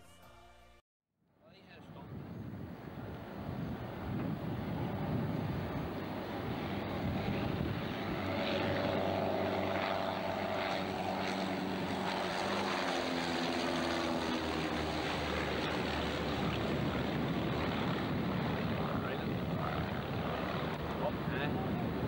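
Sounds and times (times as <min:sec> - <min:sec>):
propeller plane engines droning: 0:01.4 - 0:22.0.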